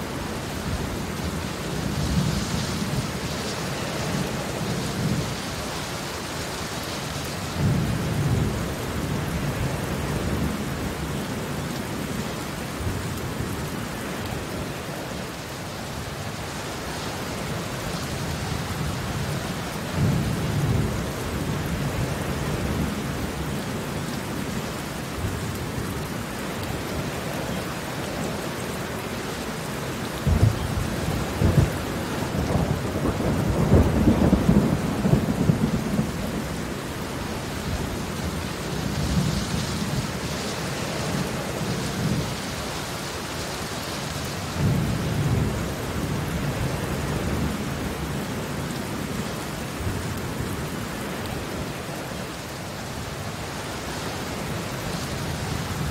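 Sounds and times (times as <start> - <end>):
heavy rain on pavement: 0.0 - 55.9.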